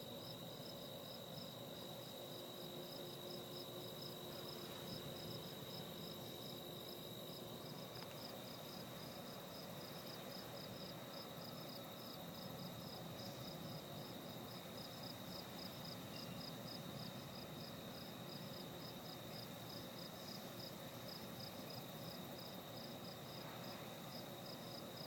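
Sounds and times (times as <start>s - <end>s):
crickets chirping: 0.0s - 25.0s
high insect trill: 0.0s - 25.0s.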